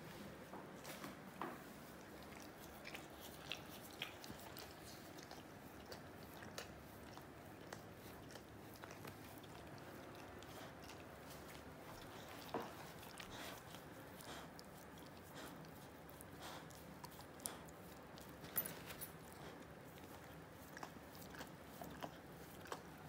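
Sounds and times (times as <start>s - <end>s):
dog licking its paw: 0.8s - 23.0s.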